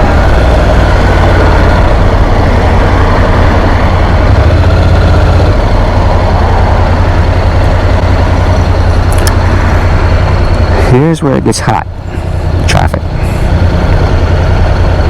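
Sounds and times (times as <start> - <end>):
motorcycle engine hum: 0.0 - 15.0
wind and road noise: 0.0 - 15.0.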